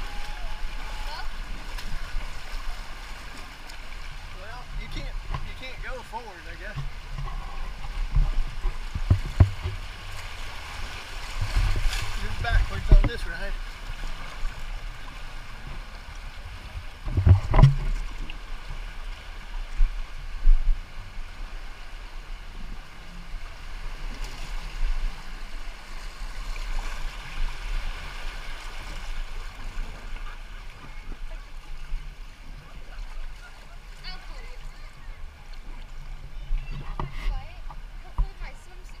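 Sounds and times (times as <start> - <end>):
water lapping and flowing: 0.0 - 39.0.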